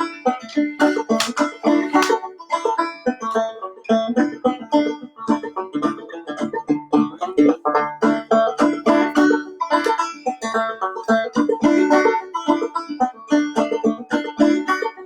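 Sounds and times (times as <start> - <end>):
banjo playing fiddle tune: 0.0 - 15.0.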